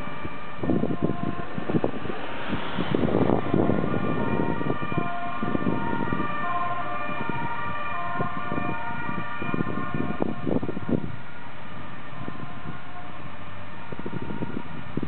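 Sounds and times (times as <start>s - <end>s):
ambulance siren two-tone: 0.0s - 11.0s, 11.9s - 15.0s
low rumble of traffic: 0.0s - 15.0s
wind noise: 0.0s - 15.0s.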